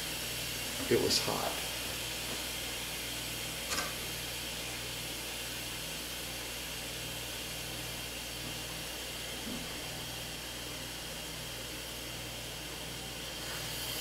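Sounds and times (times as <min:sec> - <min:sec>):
steam release valve hissing: 0:00.0 - 0:14.0.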